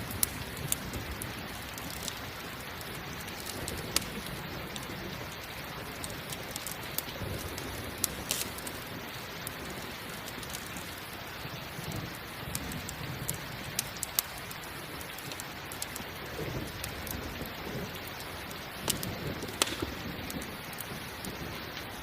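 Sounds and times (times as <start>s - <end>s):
campfire crackling and popping: 0.0s - 22.0s
steady rain: 0.0s - 22.0s.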